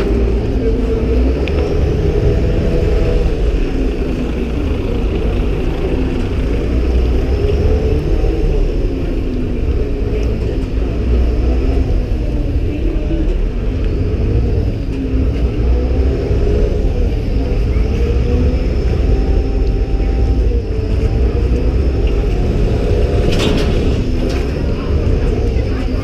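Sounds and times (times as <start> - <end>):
boat diesel engine rumbling: 0.0 - 26.0.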